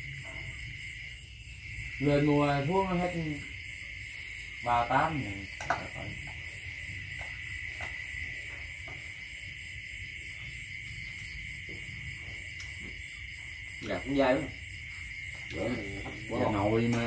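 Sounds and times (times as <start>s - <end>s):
night insects chorus: 0.0s - 17.0s.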